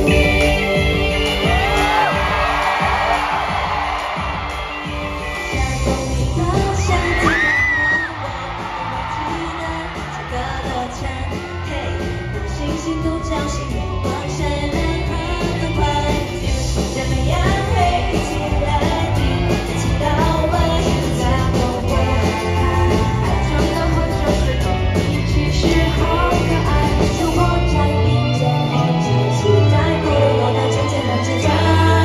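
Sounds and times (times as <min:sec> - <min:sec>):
pop backing track with bass beat: 0:00.0 - 0:32.0
women singing into microphones: 0:05.4 - 0:32.0.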